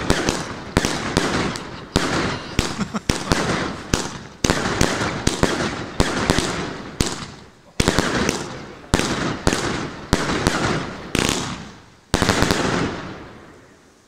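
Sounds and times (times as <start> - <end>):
fireworks banging: 0.0 - 13.8
fireworks crackling: 0.0 - 14.0.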